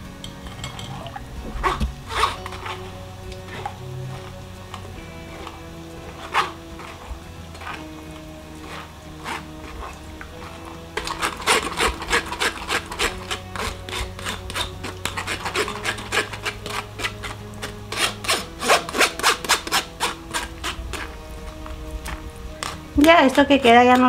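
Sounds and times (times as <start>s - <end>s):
spoon scraping sauce through strainer: 1.6s - 21.6s.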